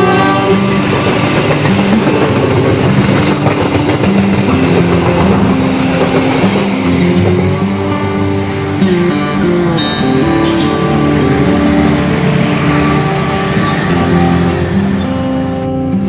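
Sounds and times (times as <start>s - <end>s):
train wheels on track: 0.0s - 15.7s.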